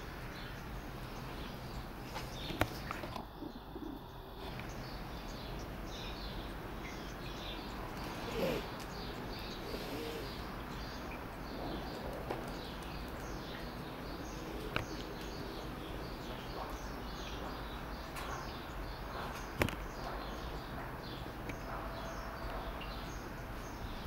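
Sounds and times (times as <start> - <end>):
outdoor background hum: 0.0 - 24.0
small birds chirping: 0.0 - 24.0.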